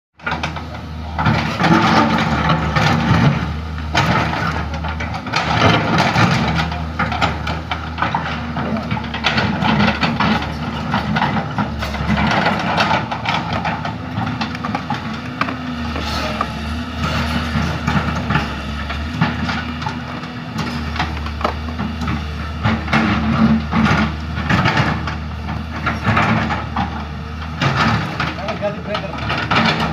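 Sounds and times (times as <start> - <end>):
excavator engine running: 0.2 - 29.9.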